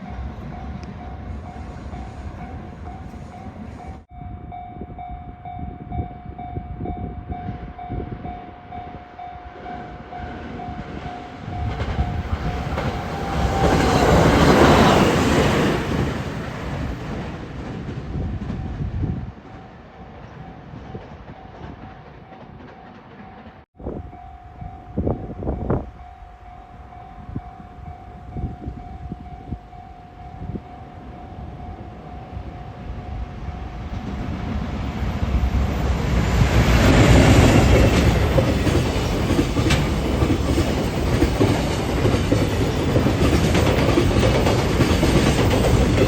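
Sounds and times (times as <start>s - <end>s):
train rumble and wheel clatter: 0.0s - 46.0s.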